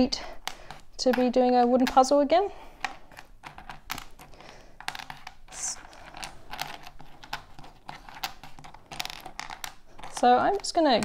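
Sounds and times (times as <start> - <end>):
wooden puzzle pieces clicking: 0.2 - 11.0.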